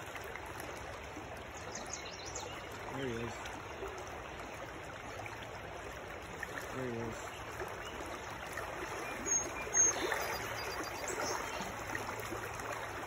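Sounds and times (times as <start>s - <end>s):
stream flowing over riffles: 0.0s - 13.0s.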